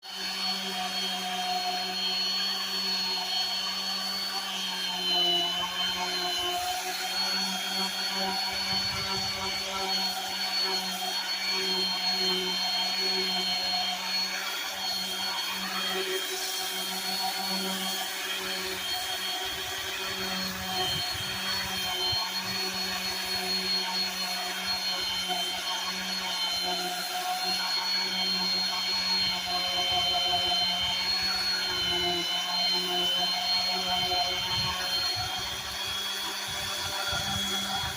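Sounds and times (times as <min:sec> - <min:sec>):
electric sander on wood: 0:00.0 - 0:37.9.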